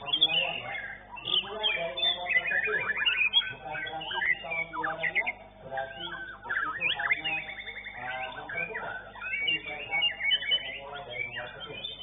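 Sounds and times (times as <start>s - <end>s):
bird singing whistles and trills: 0.0s - 12.0s
people talking: 0.0s - 12.0s.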